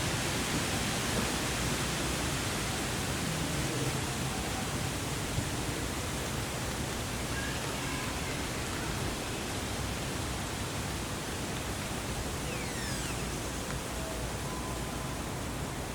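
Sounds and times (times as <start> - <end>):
steady rushing outdoor noise: 0.0 - 15.9.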